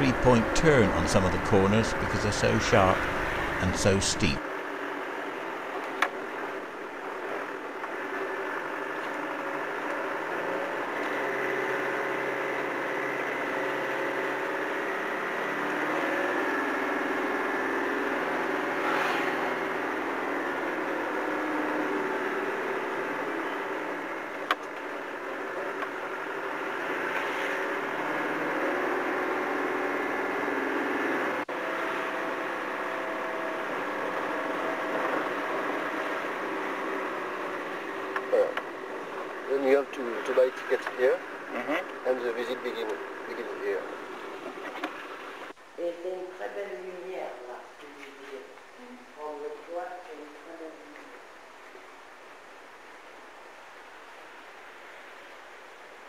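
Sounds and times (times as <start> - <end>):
car engine running under load: 0.0 - 45.8.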